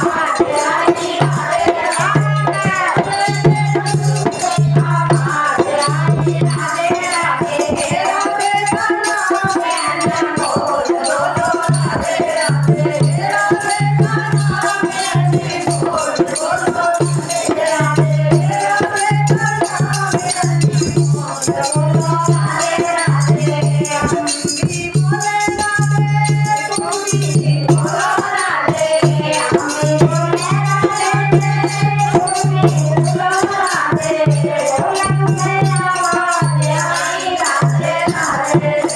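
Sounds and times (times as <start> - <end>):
rattling hand percussion: 0.0 - 38.9.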